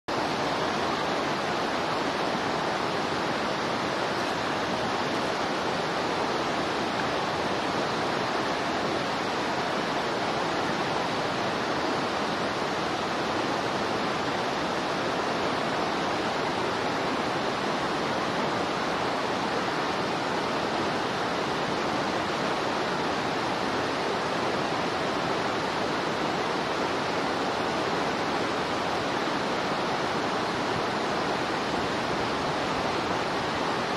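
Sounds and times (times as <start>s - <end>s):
steady rushing noise: 0.1s - 33.9s.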